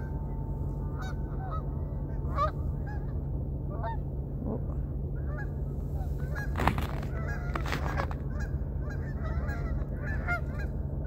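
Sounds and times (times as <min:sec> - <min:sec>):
steady low hum: 0:00.0 - 0:11.0
geese honking: 0:00.8 - 0:04.0, 0:05.2 - 0:10.9.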